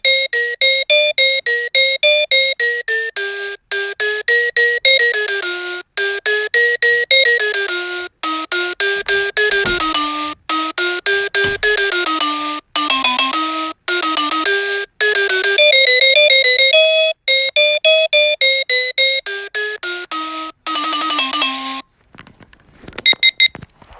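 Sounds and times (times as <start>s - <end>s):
beeping electronic alarm melody: 0.0s - 21.8s.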